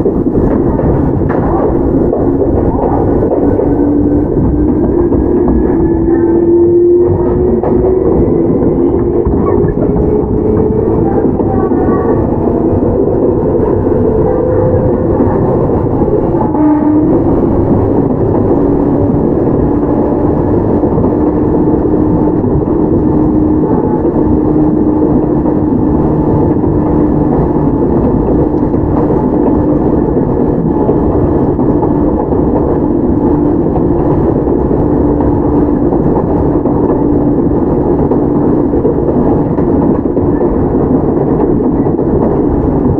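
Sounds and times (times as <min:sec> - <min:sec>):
clack of rail joints: 0:00.0 - 0:42.9
train motor whine: 0:00.0 - 0:42.9
train wheels rumbling on rails: 0:00.0 - 0:42.9.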